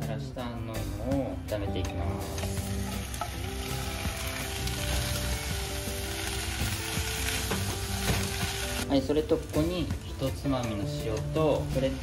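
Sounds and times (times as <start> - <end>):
potato slices sizzling in oil: 2.2 - 12.0.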